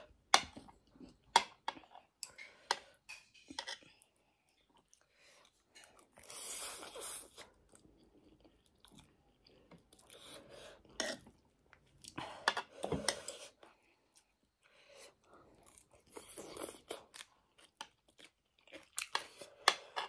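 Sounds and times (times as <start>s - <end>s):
person chewing noodles: 3.8s - 20.0s.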